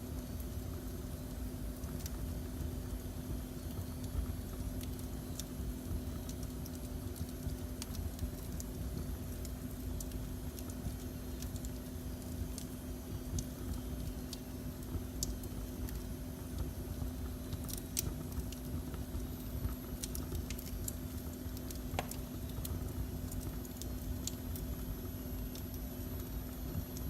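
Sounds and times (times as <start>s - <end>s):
constant low hum: 0.0s - 27.0s
wood fire crackling: 0.0s - 27.0s.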